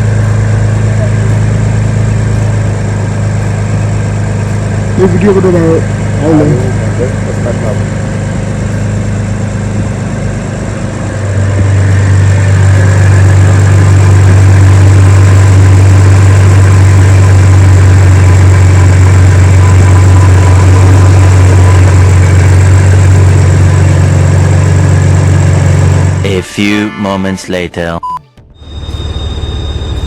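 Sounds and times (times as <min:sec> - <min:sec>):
car engine running: 0:00.0 - 0:26.6, 0:28.6 - 0:30.0.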